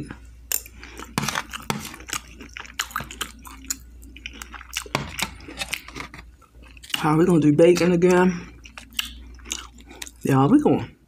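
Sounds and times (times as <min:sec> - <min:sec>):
person chewing food: 0:00.1 - 0:10.4.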